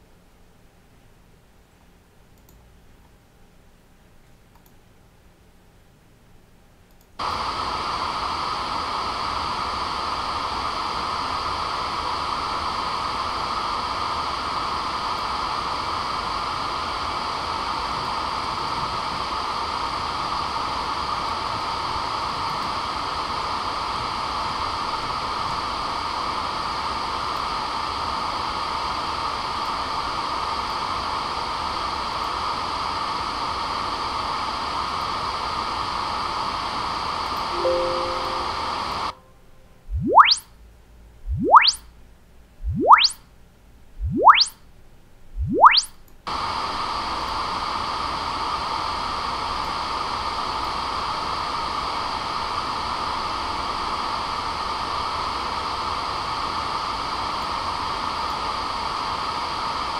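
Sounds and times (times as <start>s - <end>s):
hiss-like test noise from speaker: 6.9s - 59.9s.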